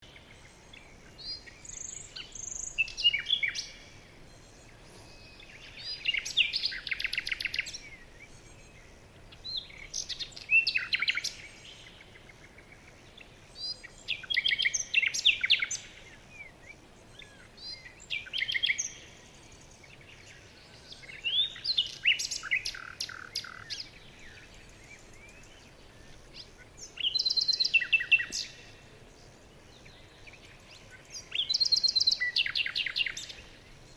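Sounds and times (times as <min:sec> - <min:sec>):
songbird singing: 0:00.0 - 0:33.9.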